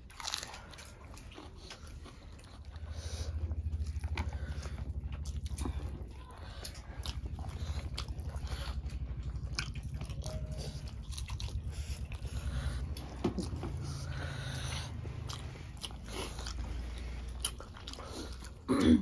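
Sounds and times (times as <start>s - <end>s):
food crunching: 0.0s - 18.8s
low steady hum: 0.0s - 19.0s
people chewing with wet smacks: 0.0s - 19.0s.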